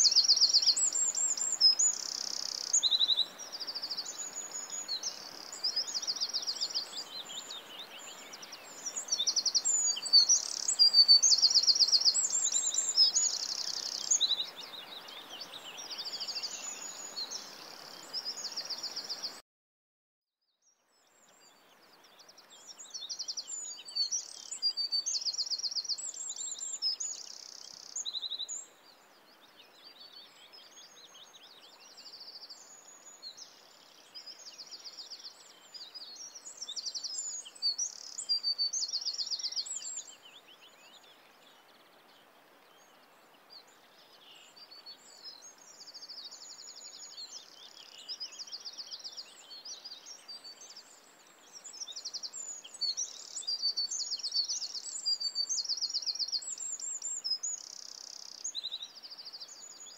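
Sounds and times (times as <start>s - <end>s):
birds singing and chirping: 0.0s - 19.4s, 29.9s - 41.2s, 42.6s - 59.9s
steady outdoor hiss: 0.0s - 19.4s, 20.9s - 59.9s.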